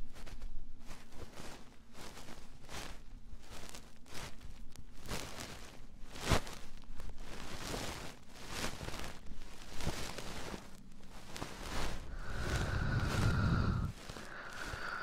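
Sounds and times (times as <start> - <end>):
scratching and rustling strokes: 0.0 - 15.0.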